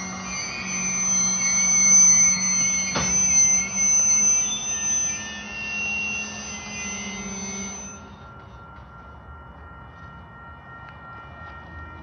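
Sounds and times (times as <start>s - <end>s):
low hum: 0.0s - 12.0s
train wheels squealing: 0.0s - 12.0s.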